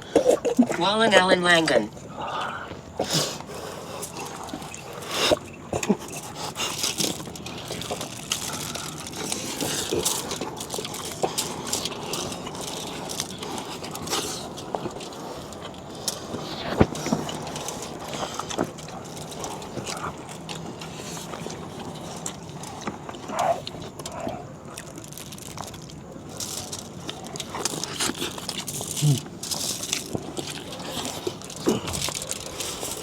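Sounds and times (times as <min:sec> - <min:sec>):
chewing: 0:00.0 - 0:00.8, 0:01.6 - 0:33.0.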